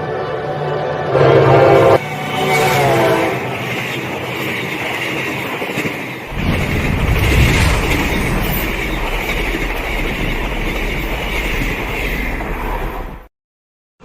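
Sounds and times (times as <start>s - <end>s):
train passing at high speed: 0.0s - 13.3s.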